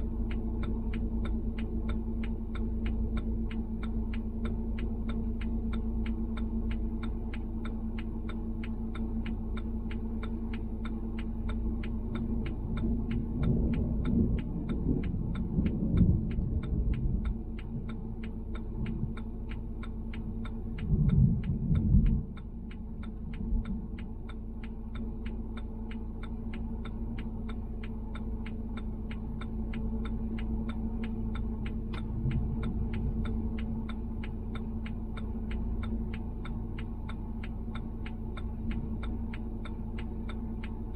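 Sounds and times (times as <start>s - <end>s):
fast even ticking: 0.0s - 40.9s
low rumbles: 0.0s - 40.9s
steady hum: 0.0s - 40.9s.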